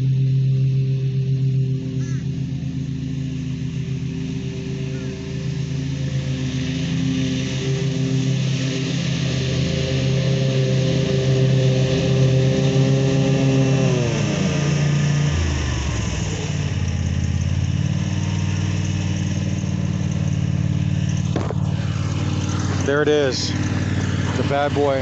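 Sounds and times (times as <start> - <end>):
lawn mower engine cutting grass: 0.0 - 25.0.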